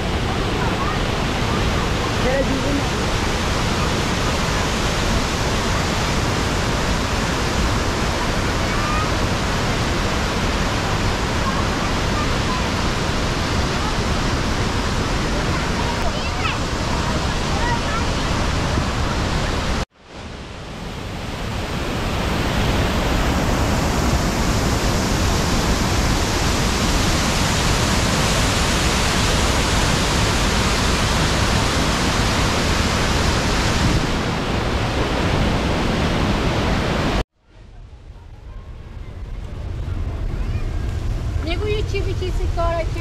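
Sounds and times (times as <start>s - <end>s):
waterfall roaring: 0.0s - 37.2s, 38.2s - 43.0s.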